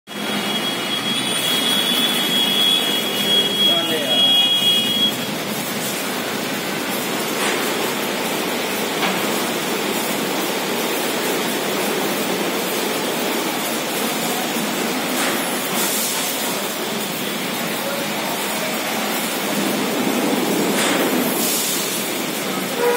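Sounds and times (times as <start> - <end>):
car wash brushes and spray rushing: 4.3 - 22.9.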